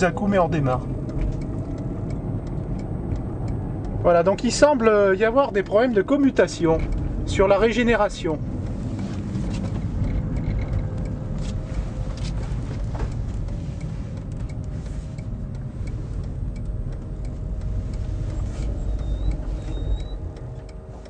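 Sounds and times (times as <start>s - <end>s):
road and tyre rumble: 0.0s - 21.0s.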